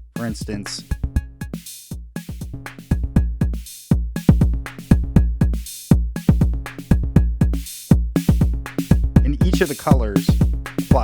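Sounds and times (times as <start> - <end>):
drum machine beat: 0.0 - 11.0
punchy kick drum: 0.0 - 11.0.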